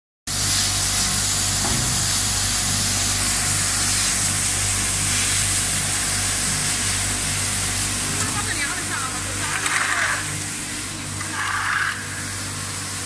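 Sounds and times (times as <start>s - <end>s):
low machine hum: 0.3s - 13.0s
water jets spraying: 0.3s - 13.0s.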